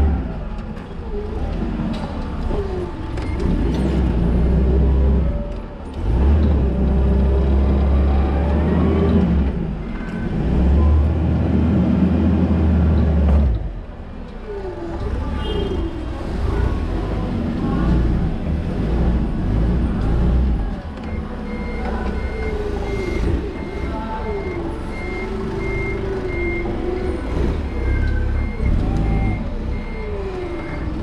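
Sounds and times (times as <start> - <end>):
forklift engine drone: 0.0 - 31.0.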